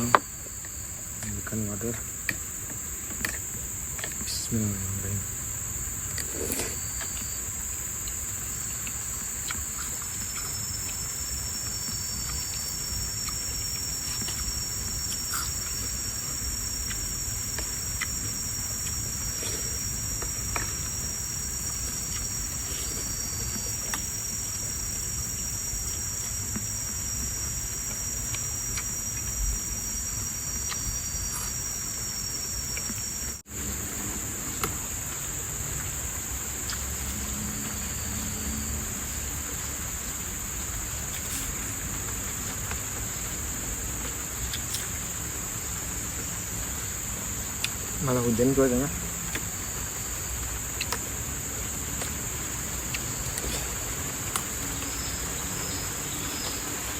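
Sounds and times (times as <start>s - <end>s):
high-pitched insect chorus: 0.0s - 56.9s
thin insect whine: 0.0s - 56.9s.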